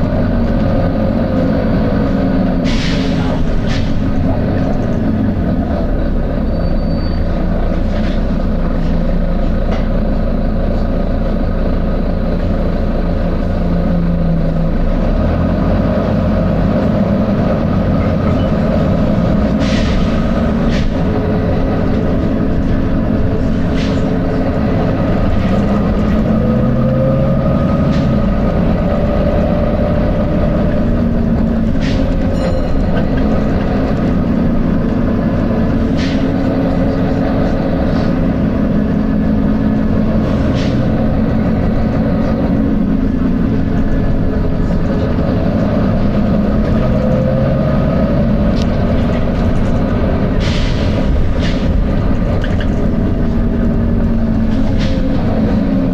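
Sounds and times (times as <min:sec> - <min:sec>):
bus engine drone: 0:00.0 - 0:55.9.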